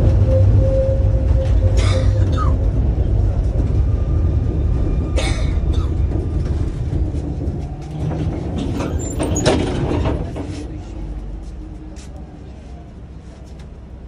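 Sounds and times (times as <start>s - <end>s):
tram running rumble: 0.0s - 14.0s.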